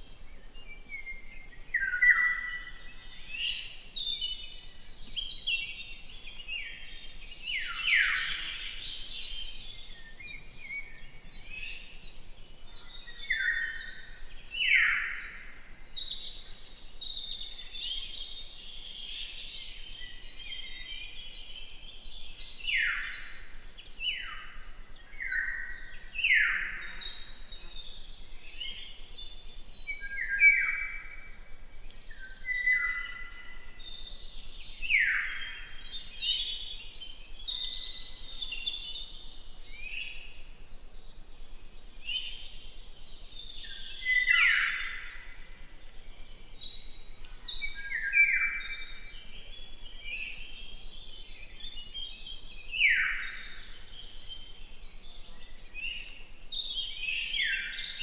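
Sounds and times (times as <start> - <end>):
birds singing and calling: 0.0 - 58.0.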